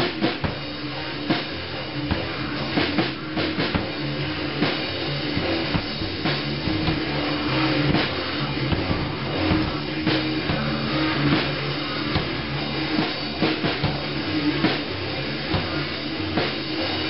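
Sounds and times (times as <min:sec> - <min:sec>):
drum kit hits: 0:00.0 - 0:17.0
electric guitars: 0:00.0 - 0:17.0.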